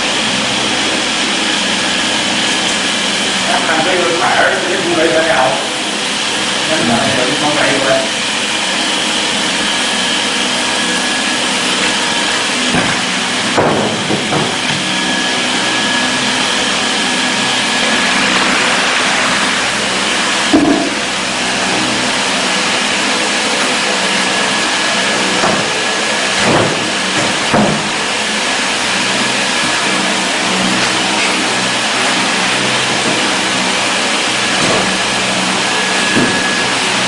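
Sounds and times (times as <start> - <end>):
faint high whine: 0.0 - 13.6, 14.2 - 37.0
machinery hiss: 0.2 - 37.0.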